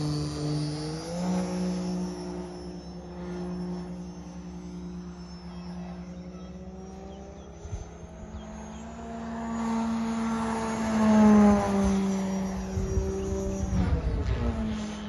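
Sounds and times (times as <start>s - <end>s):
propeller buzz of model plane: 0.0s - 15.0s.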